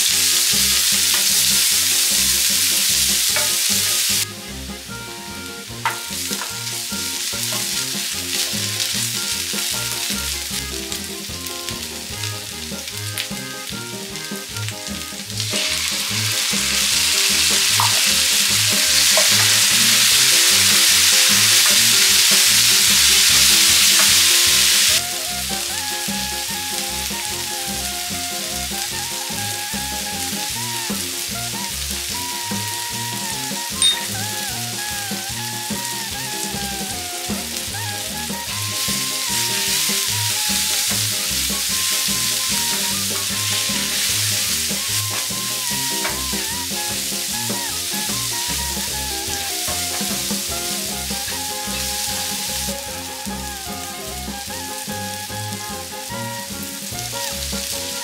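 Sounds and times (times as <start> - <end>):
background music with steady beat: 0.0 - 58.0
vegetables sizzling in oil: 0.0 - 58.0.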